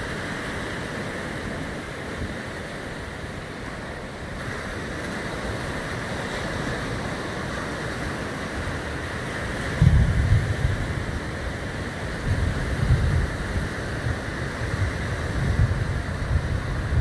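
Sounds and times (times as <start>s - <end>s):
surf washing up beach: 0.0s - 17.0s.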